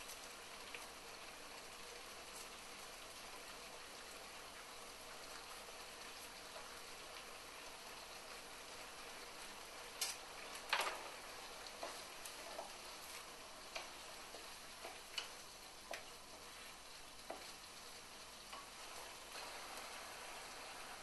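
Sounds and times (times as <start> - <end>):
onions sizzling in a pan: 0.0 - 21.0.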